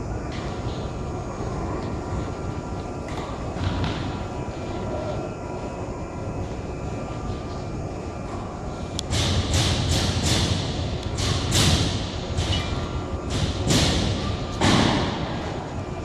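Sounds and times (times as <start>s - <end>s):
conveyor mechanical hum and rumble: 0.0s - 16.0s.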